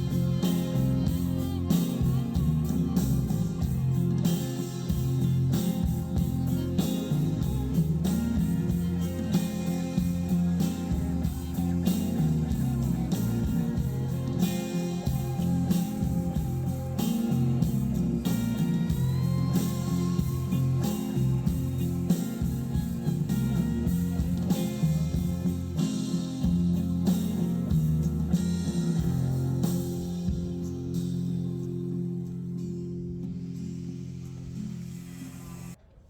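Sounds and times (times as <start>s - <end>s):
instrumental rock music: 0.0s - 35.2s.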